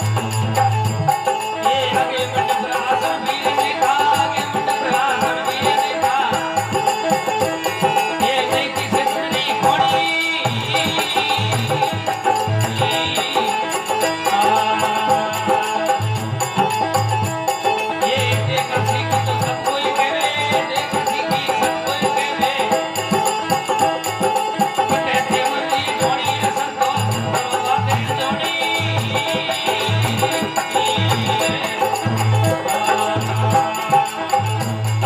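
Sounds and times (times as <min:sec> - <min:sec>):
rattling percussion rhythm: 0:00.0 - 0:35.0.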